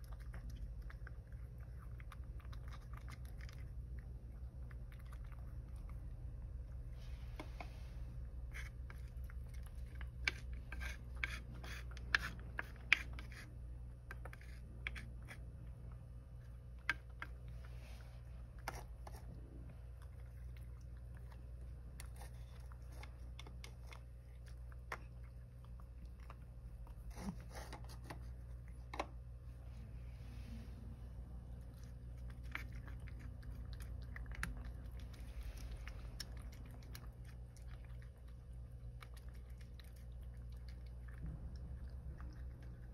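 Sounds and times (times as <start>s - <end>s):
cat crunching dry kibble: 0.0s - 7.6s, 8.3s - 29.4s, 31.3s - 42.9s
steady low hum: 0.0s - 42.9s.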